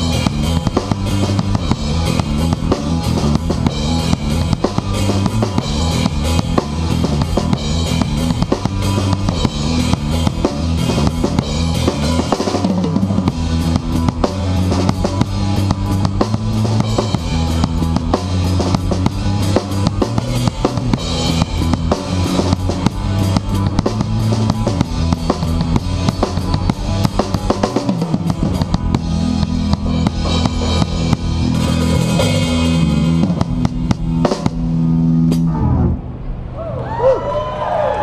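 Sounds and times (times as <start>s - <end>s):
drum kit beat: 0.0s - 35.5s
rock band playing: 0.0s - 36.0s.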